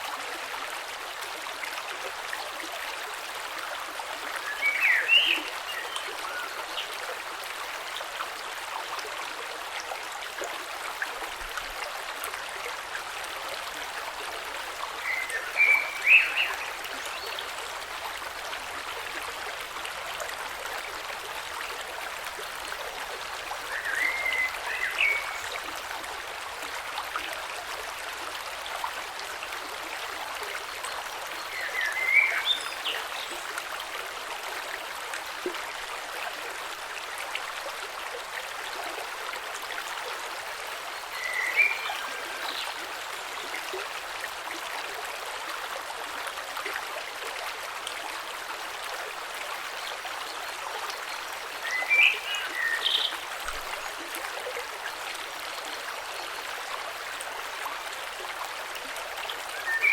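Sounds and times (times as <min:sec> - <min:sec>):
creek flowing over stones: 0:00.0 - 0:59.9.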